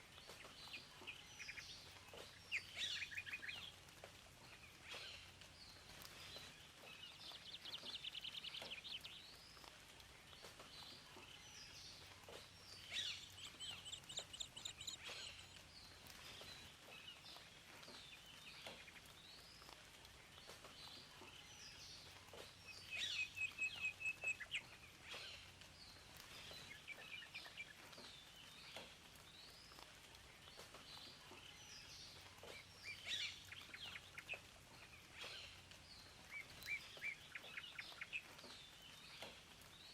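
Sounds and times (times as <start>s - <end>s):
faint steady hiss: 0.0s - 39.9s
songbirds chirping and singing: 0.0s - 39.9s.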